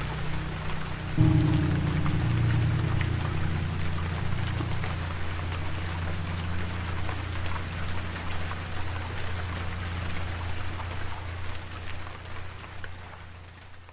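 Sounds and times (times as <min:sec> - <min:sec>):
low sustained music note: 0:00.0 - 0:11.6
rain falling: 0:00.0 - 0:13.9.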